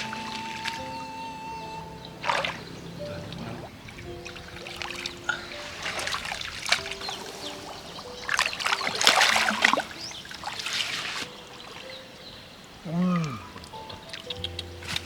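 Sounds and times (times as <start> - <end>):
soft background music: 0.0 - 15.0
water splashing and trickling: 0.0 - 15.0.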